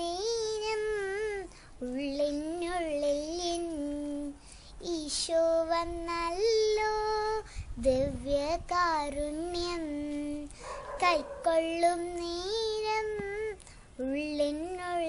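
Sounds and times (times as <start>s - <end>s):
girl singing devotional song: 0.0s - 15.0s.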